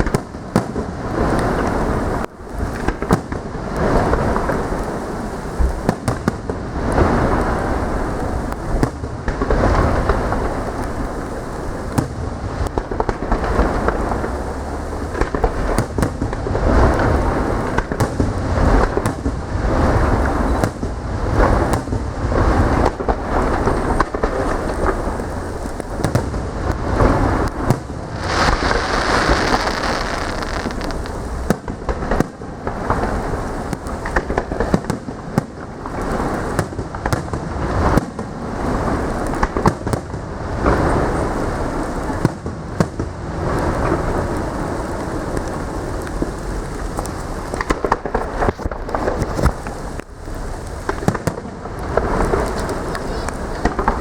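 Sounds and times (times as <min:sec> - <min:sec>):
fireworks exploding: 0:00.0 - 0:54.0
hissing crackle of fireworks: 0:00.0 - 0:54.0.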